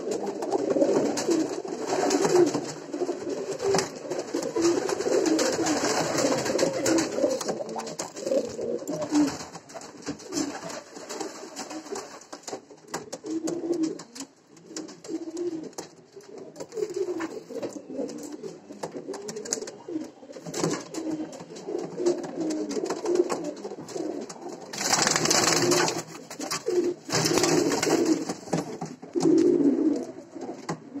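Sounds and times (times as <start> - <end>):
pigeons cooing: 0.0 - 12.2, 12.8 - 31.0.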